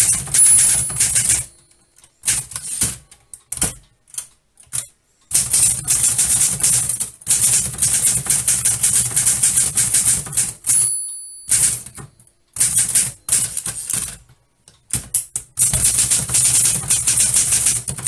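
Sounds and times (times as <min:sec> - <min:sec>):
typewriter margin bell: 0:00.0 - 0:03.8, 0:05.3 - 0:14.2, 0:15.6 - 0:18.0
typewriter key strikes: 0:00.0 - 0:14.3, 0:14.9 - 0:18.0.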